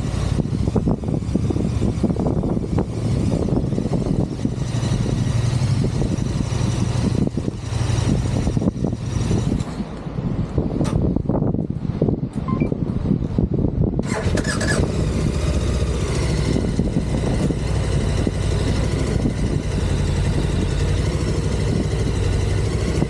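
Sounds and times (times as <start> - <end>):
vehicle engine running: 0.0 - 11.4, 14.1 - 23.0
wind rumble on microphone: 0.0 - 23.0.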